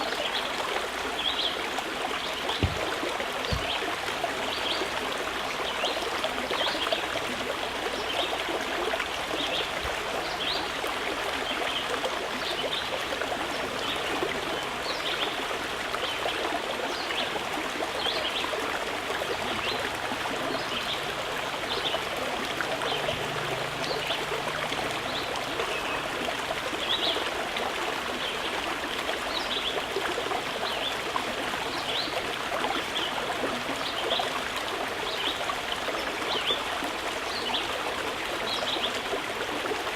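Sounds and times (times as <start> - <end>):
running water babbling: 0.0 - 39.9
small trickling splashes: 0.0 - 39.9.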